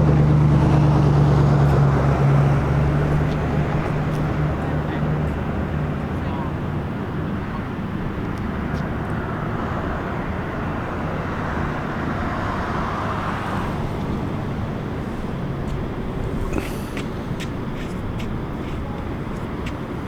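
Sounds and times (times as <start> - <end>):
vehicle passing: 0.0 - 19.6
motor vehicle engines rumbling: 0.0 - 20.0.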